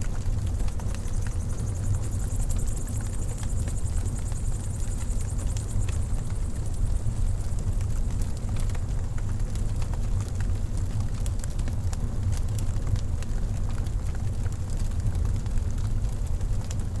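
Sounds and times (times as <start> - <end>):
wood fire crackling: 0.0 - 15.2.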